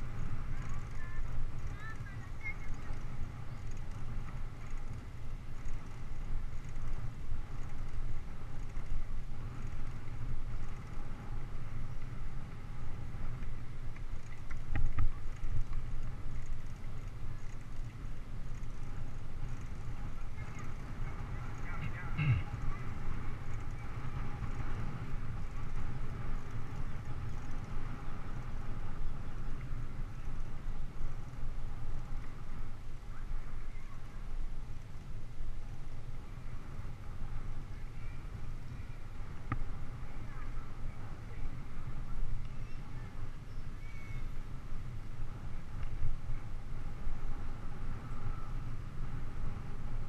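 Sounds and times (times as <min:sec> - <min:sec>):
bicycle tyre noise on pavement: 0:00.0 - 0:50.0
wind rumble on microphone: 0:00.0 - 0:50.0.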